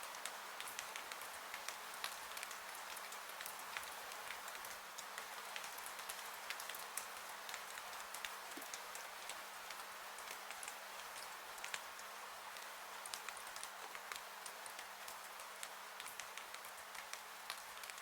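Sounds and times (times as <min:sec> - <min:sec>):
steady rainfall hiss: 0:00.0 - 0:18.0.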